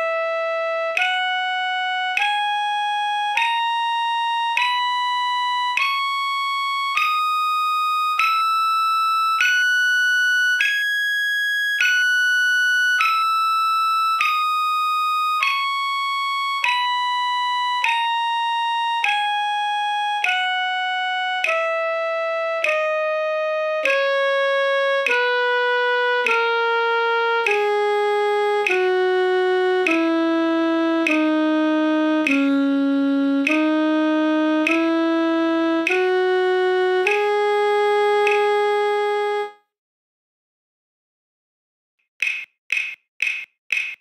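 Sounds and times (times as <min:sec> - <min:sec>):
instrument playing scale notes: 0:00.0 - 0:11.2, 0:11.8 - 0:39.6.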